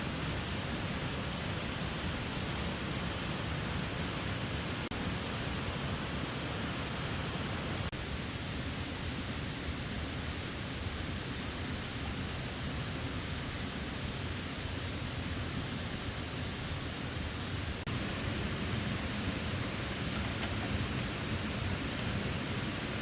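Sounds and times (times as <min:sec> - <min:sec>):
waterfall roar: 0:00.0 - 0:23.0.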